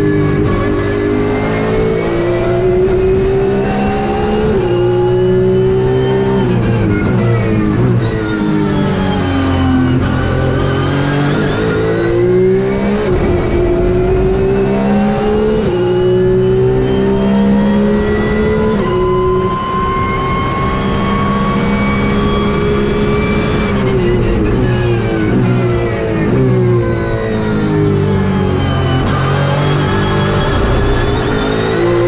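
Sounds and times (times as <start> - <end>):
racing engine revving and upshifting: 0.0 - 32.0.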